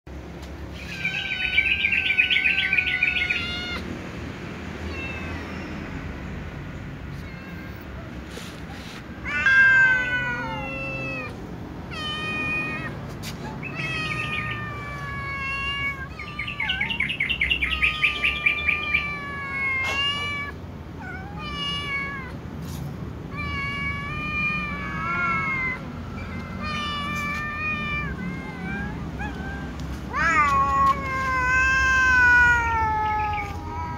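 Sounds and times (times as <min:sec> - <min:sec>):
cats meowing: 0:00.4 - 0:04.0, 0:04.7 - 0:06.2, 0:06.9 - 0:33.9.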